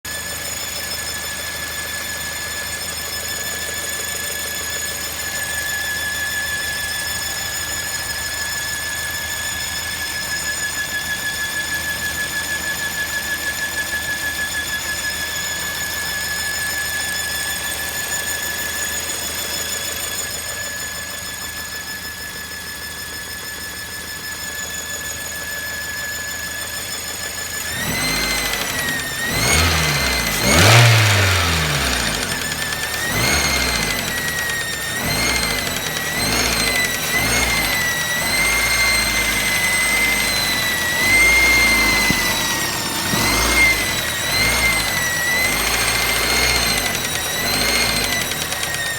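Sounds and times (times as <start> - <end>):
car engine running: 0.0 - 48.9
engine revving: 0.0 - 48.9
high-pitched whistle: 0.1 - 48.9.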